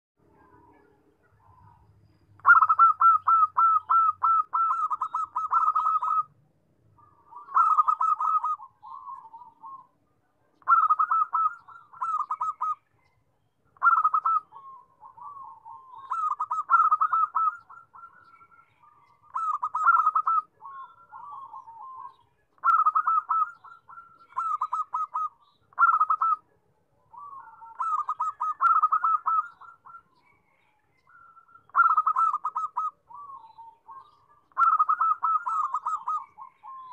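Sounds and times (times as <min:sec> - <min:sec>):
dove cooing: 0:00.4 - 0:06.4, 0:07.0 - 0:12.9, 0:13.8 - 0:36.9.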